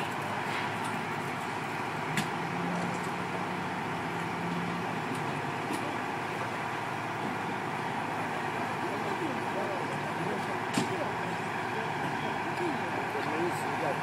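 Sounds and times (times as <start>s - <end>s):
idling vehicle engines: 0.0s - 14.0s
street traffic: 0.0s - 14.0s.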